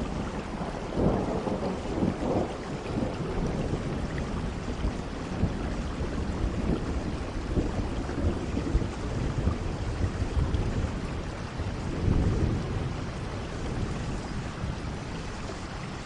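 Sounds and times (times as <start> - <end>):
distant thunder rumbling: 0.0 - 16.0
steady rain: 0.0 - 16.0.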